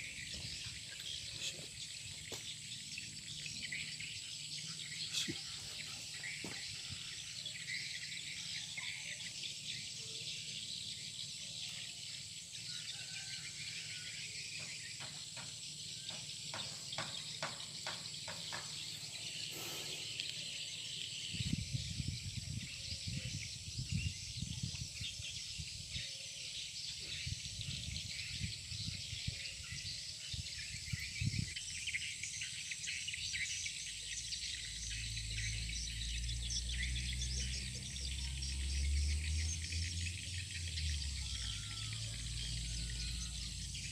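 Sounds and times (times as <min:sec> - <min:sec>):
bird calls: 0:00.0 - 0:43.9
insect chorus buzzing: 0:00.0 - 0:43.9.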